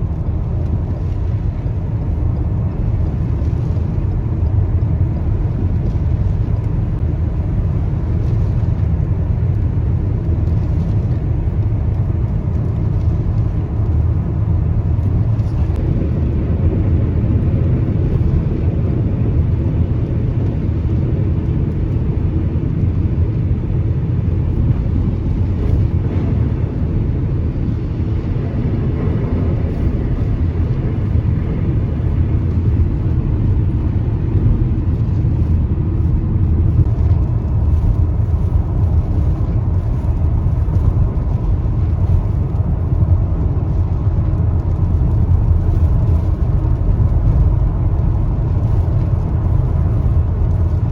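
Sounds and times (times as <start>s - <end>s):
car driving on road: 0.0s - 50.9s.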